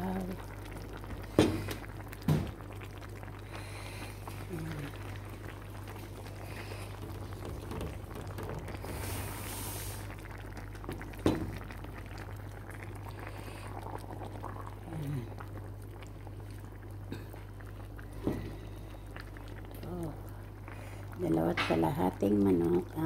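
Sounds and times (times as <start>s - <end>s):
broth bubbling in pan: 0.0s - 23.0s.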